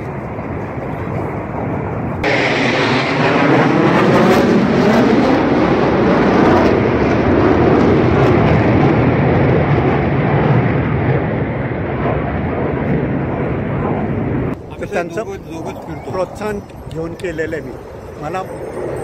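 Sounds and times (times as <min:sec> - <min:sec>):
aircraft flying low overhead: 0:00.0 - 0:19.0.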